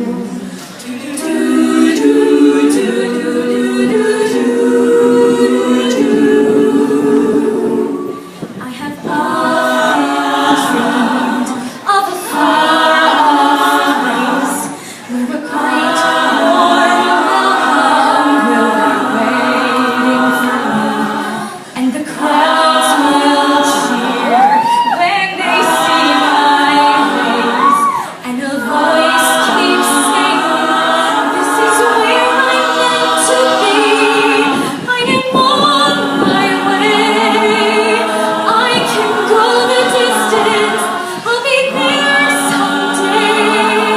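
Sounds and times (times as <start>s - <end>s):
women singing a cappella harmony: 0.0s - 43.9s.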